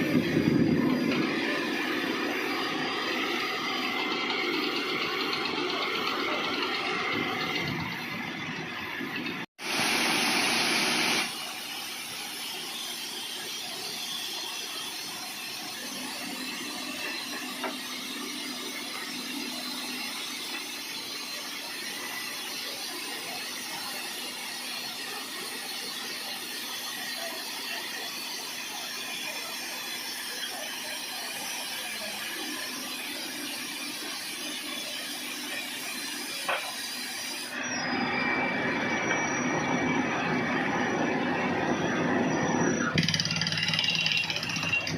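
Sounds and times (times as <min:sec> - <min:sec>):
drilling rig and air compressor: 0:00.0 - 0:44.9.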